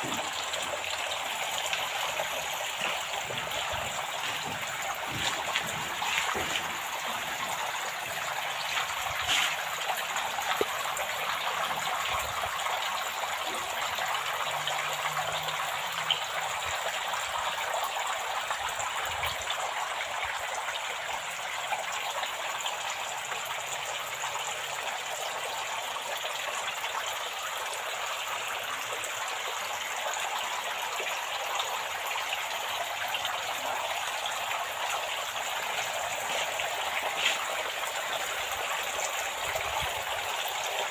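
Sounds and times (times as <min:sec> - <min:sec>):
water splattering into gutter: 0:00.0 - 0:40.9.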